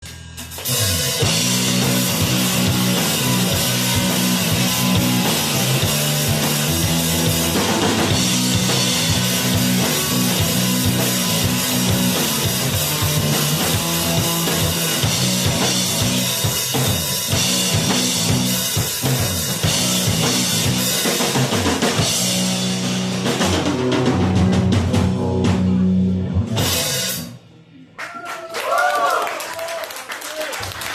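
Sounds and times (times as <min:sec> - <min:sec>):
live rock band playing: 0:00.0 - 0:27.4
drum kit: 0:00.0 - 0:27.5.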